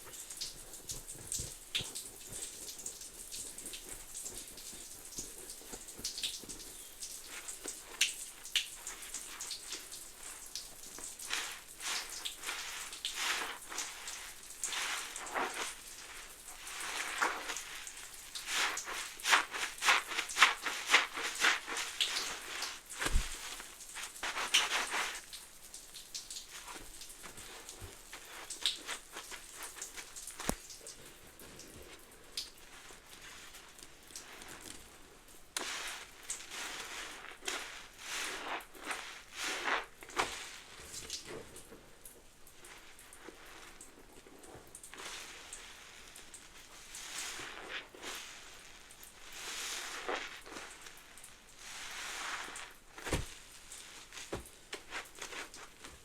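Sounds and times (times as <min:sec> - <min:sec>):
soapy suds crackling and popping: 0:00.0 - 0:56.0.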